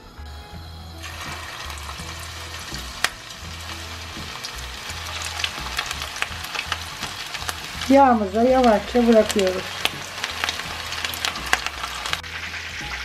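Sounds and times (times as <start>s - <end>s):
oil sizzling and crackling in a pan: 1.0s - 13.0s.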